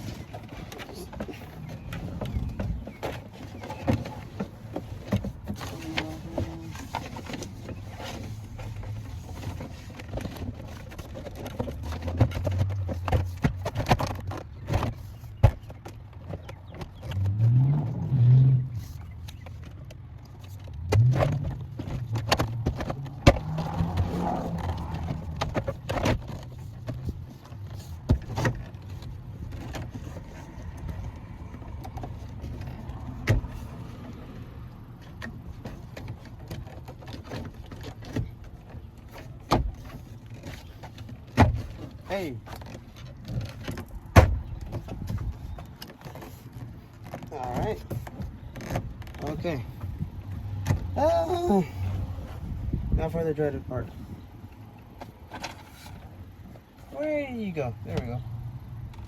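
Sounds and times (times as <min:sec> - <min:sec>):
parts and tools clicking and rattling: 0:00.0 - 0:17.5, 0:18.8 - 0:52.6.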